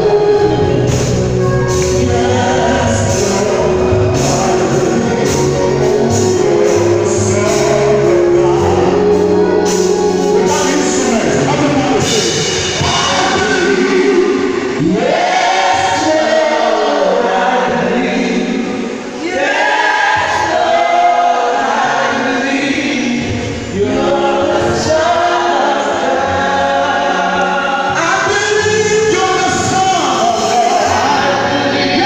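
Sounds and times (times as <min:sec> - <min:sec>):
choir singing in harmony: 0:00.0 - 0:32.0.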